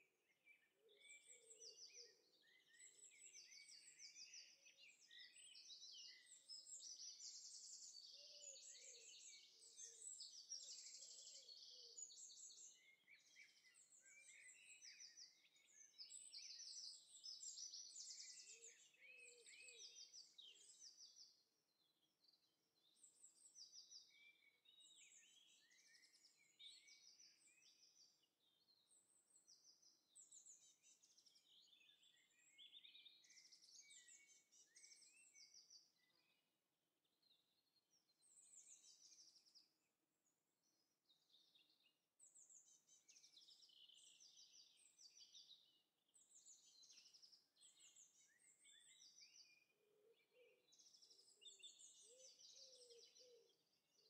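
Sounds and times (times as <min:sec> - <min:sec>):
small birds chirping and trilling: 0:00.2 - 0:54.0.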